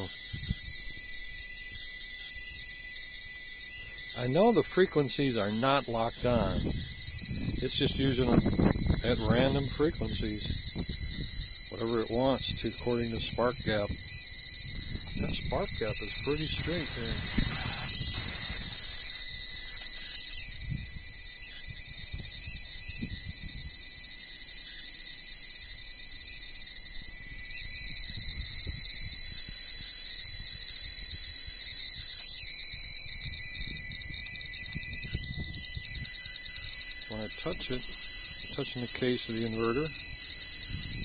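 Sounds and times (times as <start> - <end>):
spark gap sizzling: 0.0 - 23.2, 28.9 - 41.0
high-pitched whine: 0.0 - 41.0.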